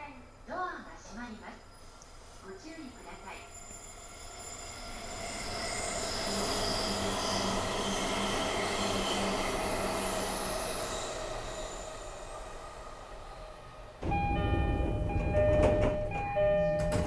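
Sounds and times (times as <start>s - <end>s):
train rolling on rails: 0.0s - 17.0s.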